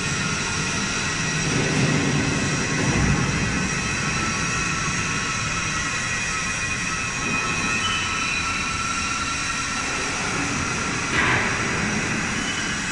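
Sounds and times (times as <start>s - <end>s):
motor and pump hum: 0.0s - 12.9s.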